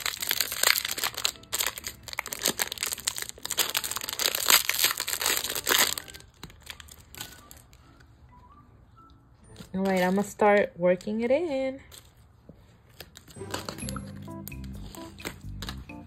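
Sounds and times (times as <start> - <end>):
plastic wrapper crinkling: 0.0 - 8.1, 9.5 - 11.2, 11.8 - 16.0.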